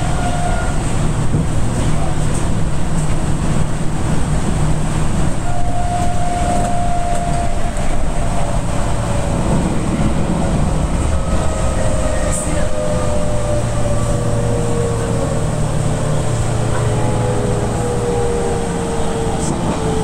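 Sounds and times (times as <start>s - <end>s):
train motors and wheels rumbling: 0.0s - 20.0s.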